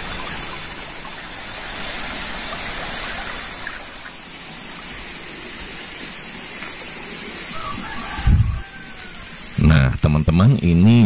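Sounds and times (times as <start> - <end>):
running water trickling: 0.0 - 9.5
thin steady high tone: 0.0 - 11.0.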